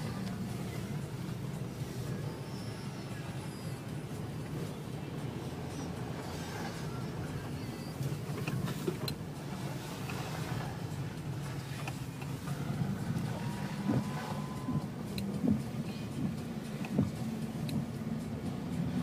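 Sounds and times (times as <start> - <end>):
car engine and road hum: 0.0 - 19.0.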